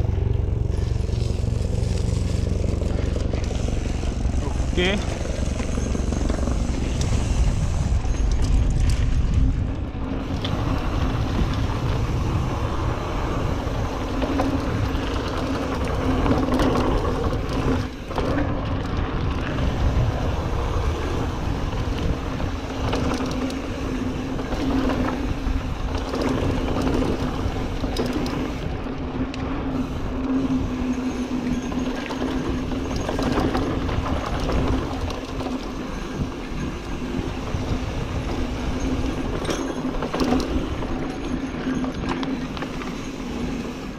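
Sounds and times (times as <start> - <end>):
wind buffeting microphone: 0.0 - 42.9
bike rattling over bumps: 0.0 - 43.9
tyres rolling over loose dirt: 0.0 - 43.9.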